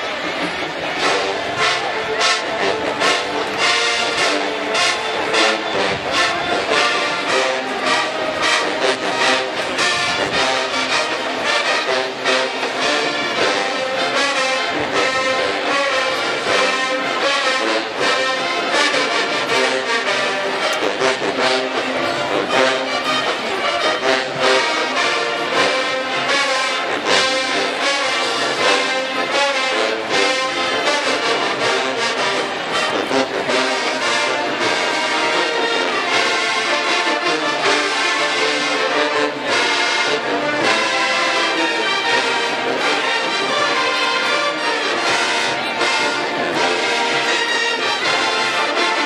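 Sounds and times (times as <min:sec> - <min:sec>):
marching band brass playing: 0:00.0 - 0:49.0.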